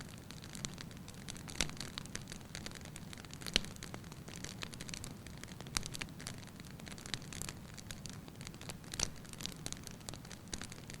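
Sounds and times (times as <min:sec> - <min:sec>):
logs crackling and popping: 0:00.0 - 0:11.0
low rumble of flame: 0:00.0 - 0:11.0.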